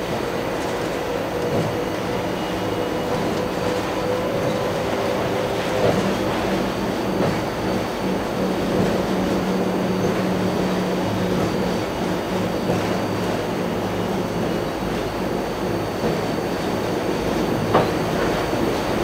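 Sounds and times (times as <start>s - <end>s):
monorail train rolling: 0.0s - 19.0s.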